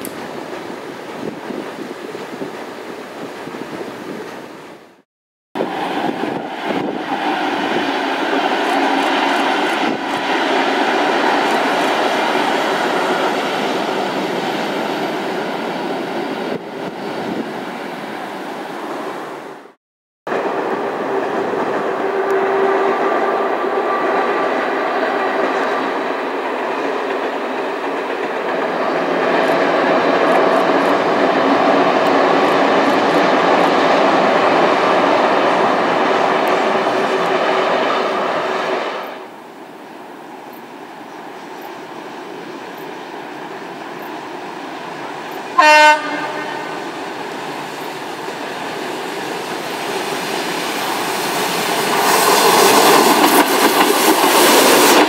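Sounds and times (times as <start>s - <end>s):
train wheels rumbling on rails: 5.6s - 55.0s.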